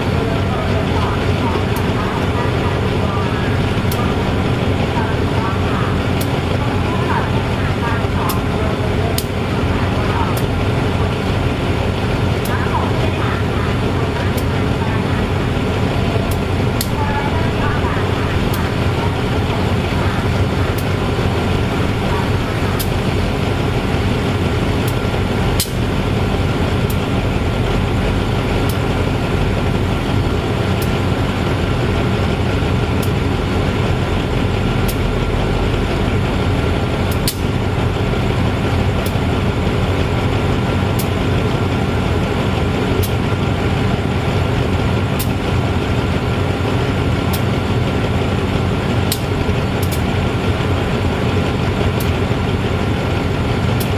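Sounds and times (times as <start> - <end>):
locomotive engine idling: 0.0 - 53.9.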